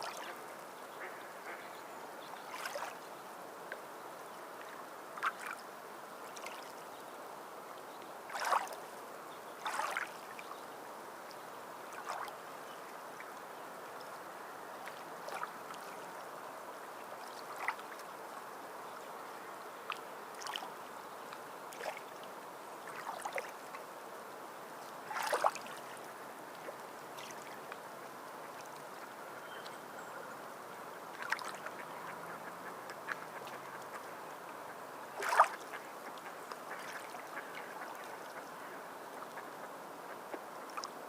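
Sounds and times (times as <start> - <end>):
small waves lapping and splashing: 0.0 - 3.6, 4.3 - 41.0
gentle wash of water: 0.0 - 41.0.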